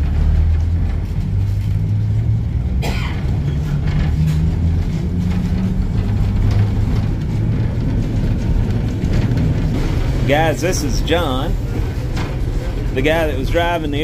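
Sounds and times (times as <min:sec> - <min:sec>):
streetcar motor and gear hum: 0:00.0 - 0:14.0.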